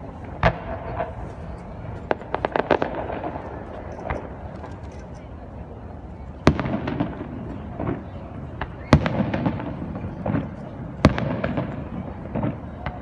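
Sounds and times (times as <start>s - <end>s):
fireworks bangs: 0.0s - 4.8s, 6.4s - 13.0s
fireworks pops and crackling: 0.1s - 5.4s, 6.4s - 13.0s.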